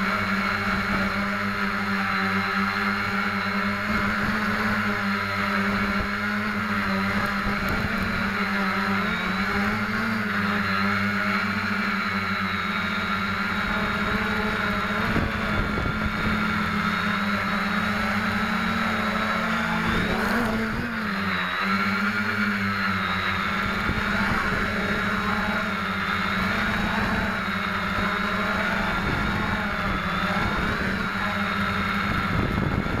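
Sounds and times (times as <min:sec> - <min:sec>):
quadcopter motors buzzing: 0:00.0 - 0:33.0.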